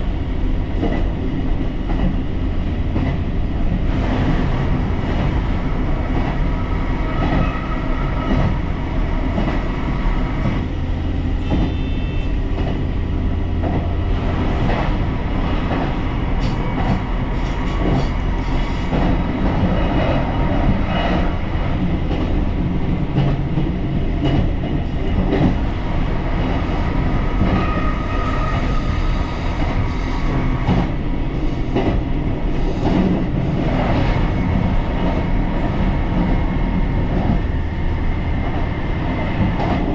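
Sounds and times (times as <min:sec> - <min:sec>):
railcar engine and wheels rumbling: 0:00.0 - 0:39.9.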